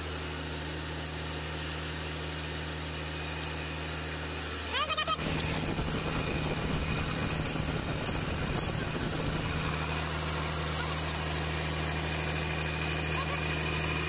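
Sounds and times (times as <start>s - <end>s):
diesel engine idling: 1.4s - 14.0s.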